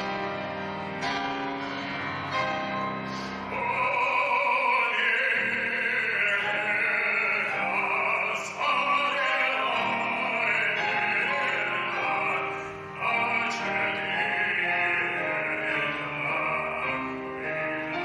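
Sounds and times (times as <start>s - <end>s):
instrumental accompaniment: 0.0s - 18.0s
person singing long held notes: 3.2s - 18.0s.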